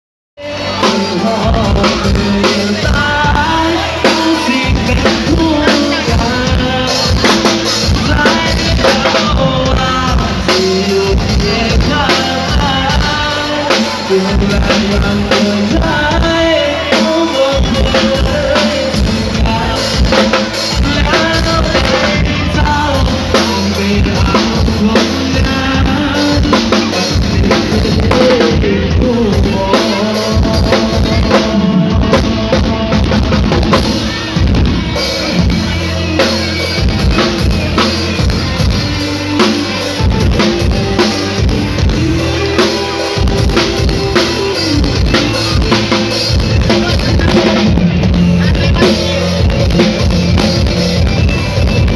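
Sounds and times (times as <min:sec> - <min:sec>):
drum kit fast beat: 0:00.4 - 0:51.9.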